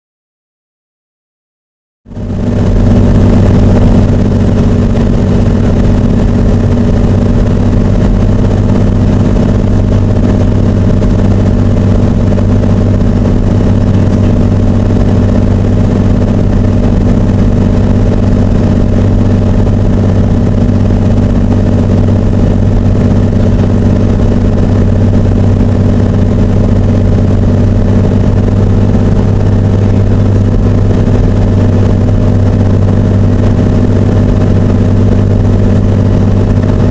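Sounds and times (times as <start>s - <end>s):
propeller plane engine droning: 2.1s - 36.9s.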